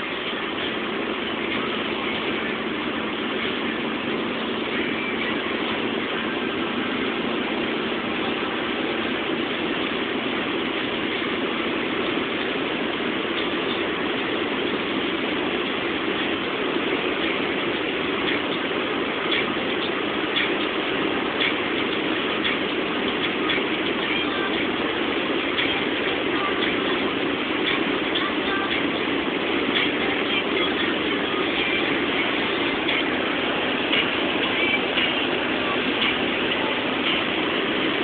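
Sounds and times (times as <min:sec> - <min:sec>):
car engine cruising: 0:00.0 - 0:38.0
wind noise in car cabin: 0:00.0 - 0:38.0.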